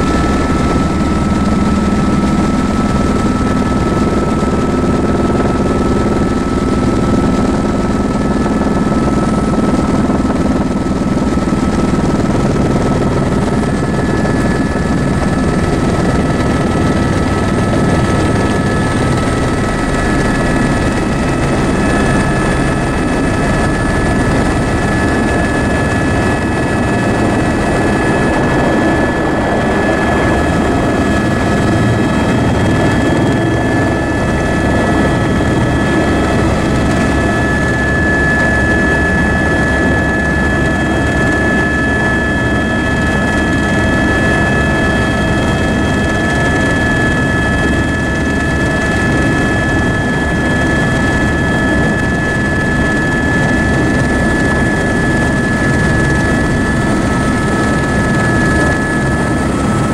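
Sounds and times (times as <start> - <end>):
helicopter engine and rotor drone: 0.0 - 59.9
high turbine whine: 0.0 - 59.9.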